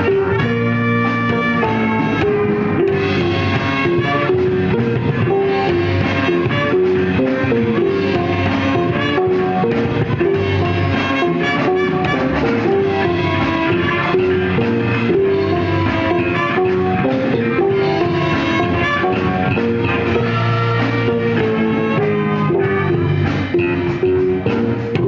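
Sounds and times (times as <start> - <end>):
drum kit beat: 0.0 - 25.0
live band playing funk jazz: 0.0 - 25.0.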